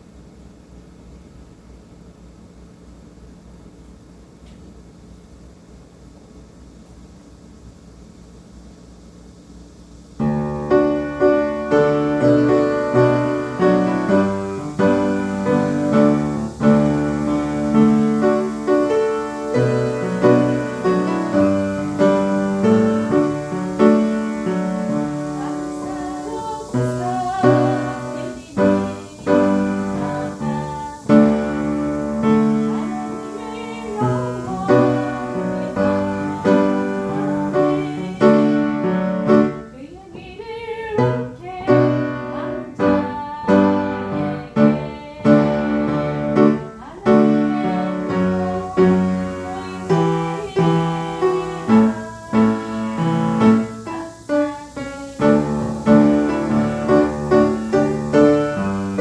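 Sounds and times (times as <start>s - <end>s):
person singing with vibrato: 10.2s - 59.0s
slow hymn on piano: 10.2s - 59.0s.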